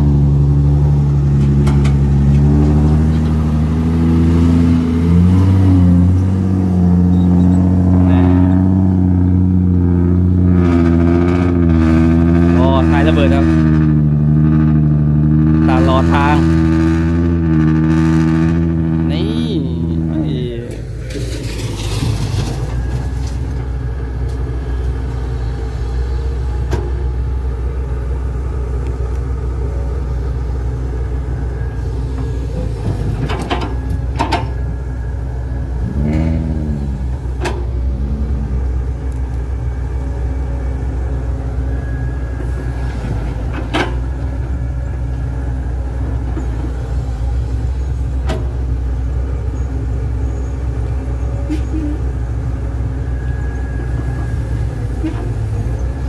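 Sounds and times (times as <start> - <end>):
diesel engines rumbling: 0.0 - 56.0.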